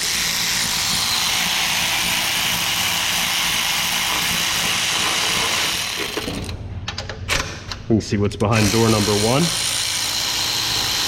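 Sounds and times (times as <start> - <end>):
power tool running: 0.0 - 6.6, 8.5 - 11.0.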